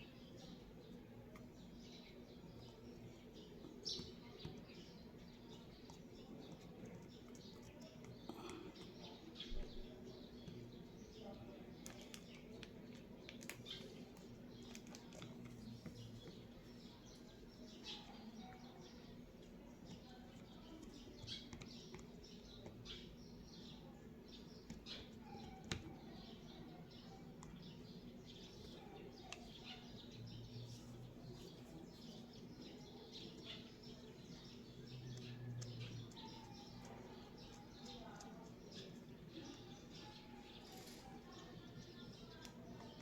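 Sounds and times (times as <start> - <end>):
faint birds chirping: 0.0 - 43.0.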